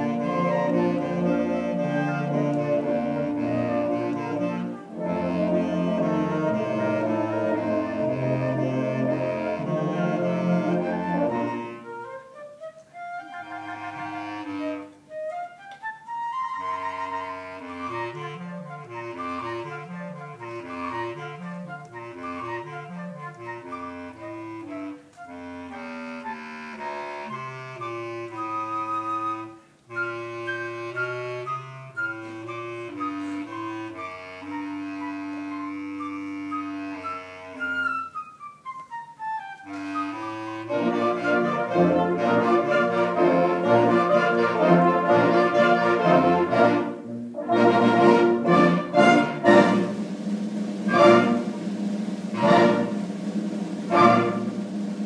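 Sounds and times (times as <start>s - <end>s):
full band with brass: 0.0s - 12.6s, 13.3s - 15.1s, 16.5s - 55.0s
high woodwinds playing runs: 0.0s - 55.0s.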